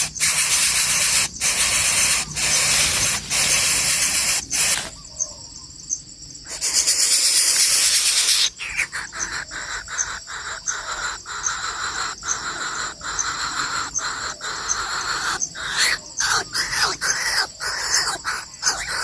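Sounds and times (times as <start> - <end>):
harsh rasping bird calls: 0.0 - 5.3, 6.4 - 19.0.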